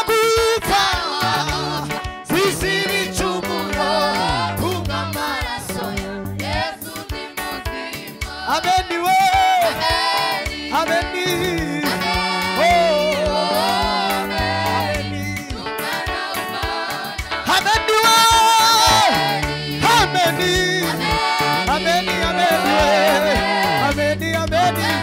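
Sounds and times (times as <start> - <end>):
gospel choir singing: 0.0 - 25.0
keyboard bass notes: 0.0 - 25.0
lead singer: 0.0 - 25.0.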